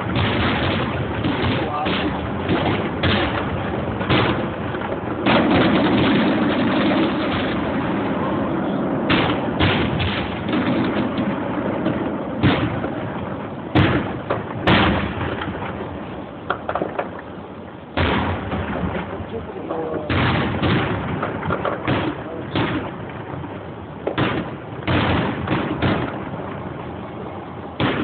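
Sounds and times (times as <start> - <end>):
constant noisy background: 0.0 - 28.0
fireworks bangs: 0.0 - 28.0.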